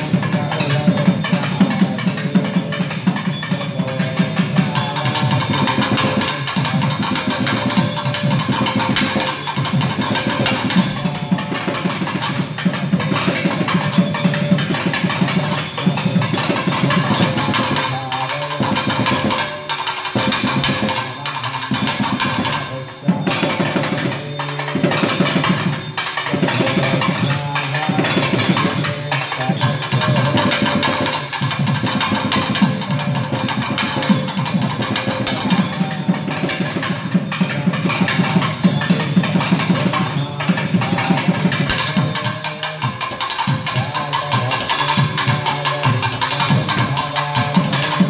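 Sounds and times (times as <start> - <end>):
barrel drums played fast: 0.0 - 48.0.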